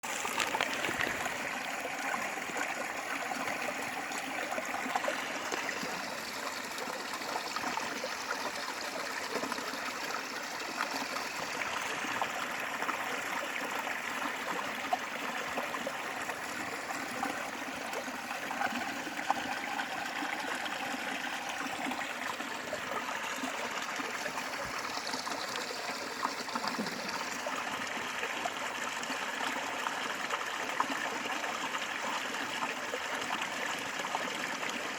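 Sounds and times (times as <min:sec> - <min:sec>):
stream trickling over rocks: 0:00.0 - 0:34.9.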